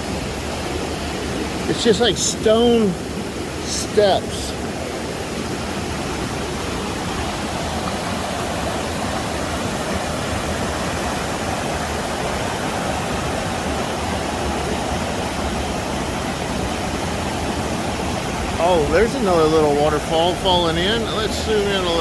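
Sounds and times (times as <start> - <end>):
waterfall and creek rushing: 0.0 - 22.0.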